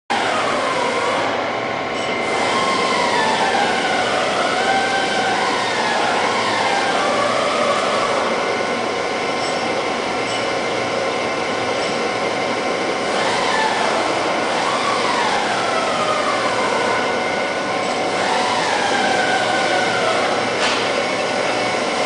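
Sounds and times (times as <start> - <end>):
boring mill humming and hissing: 0.1 - 22.0
motor whine gliding in pitch: 0.1 - 22.0.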